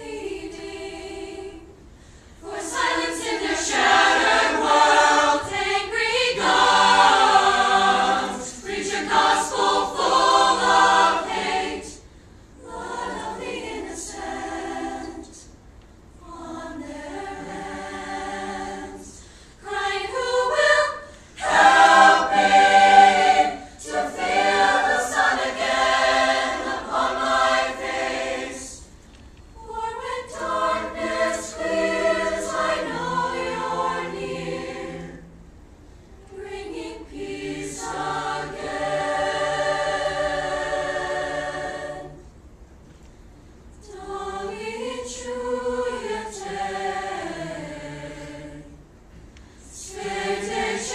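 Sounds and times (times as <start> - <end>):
children's choir singing: 0.0 - 1.7, 2.4 - 15.5, 16.2 - 28.9, 29.6 - 35.3, 36.2 - 42.3, 43.8 - 48.8, 49.7 - 50.9.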